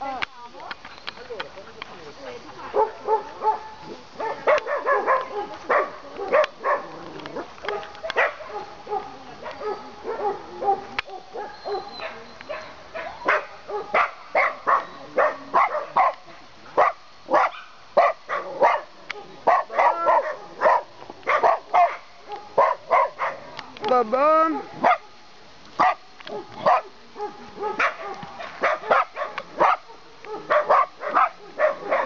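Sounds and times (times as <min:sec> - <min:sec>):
dogs barking: 0:02.6 - 0:23.5, 0:24.5 - 0:25.2, 0:25.8 - 0:32.0.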